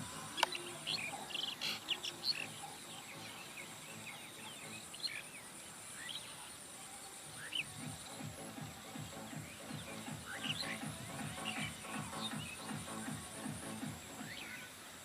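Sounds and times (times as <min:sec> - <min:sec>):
pulsing insect trill: 0:00.0 - 0:14.8
birds chirping: 0:00.0 - 0:15.0.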